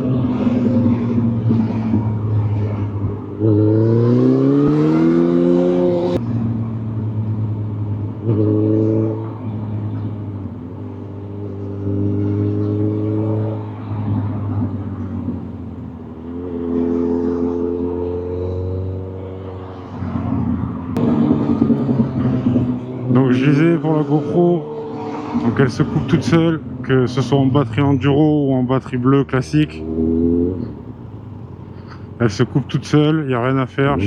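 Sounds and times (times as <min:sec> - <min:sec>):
motorcycle engine revving: 0:00.0 - 0:26.9, 0:29.5 - 0:33.1.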